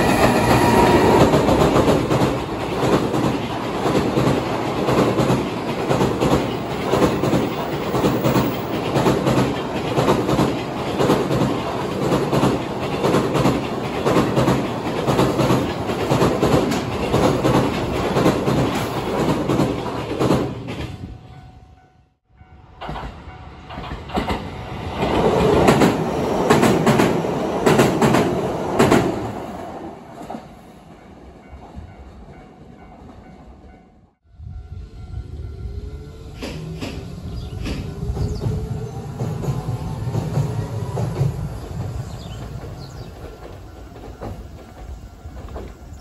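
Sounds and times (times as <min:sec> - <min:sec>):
train wheels clattering over rail joints: 0:00.0 - 0:21.0, 0:22.8 - 0:29.4, 0:36.4 - 0:46.0.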